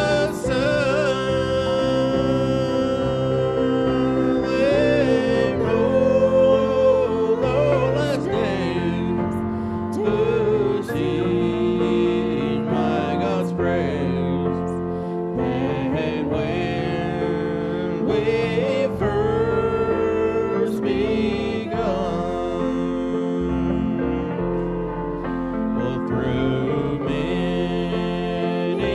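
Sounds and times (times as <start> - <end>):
gospel church music: 0.0 - 28.9.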